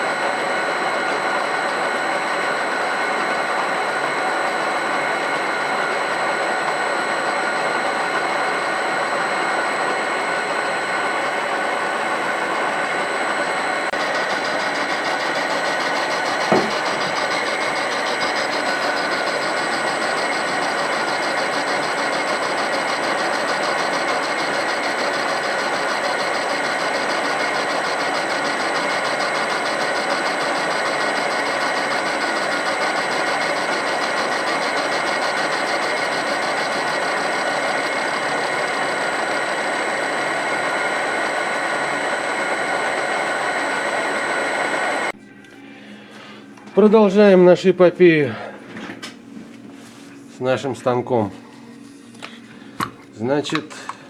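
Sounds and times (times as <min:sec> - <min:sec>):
small electric motor running: 0:00.0 - 0:45.1.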